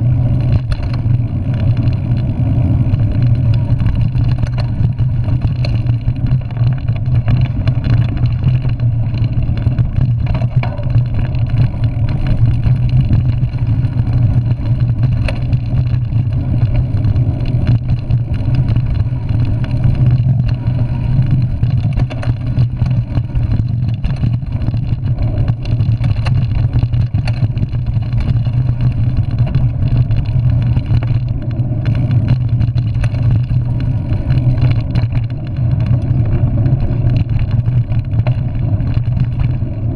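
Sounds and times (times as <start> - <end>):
bike knocks and rattles: 0.0 - 39.9
tyres rumbling on dirt trail: 0.0 - 39.9.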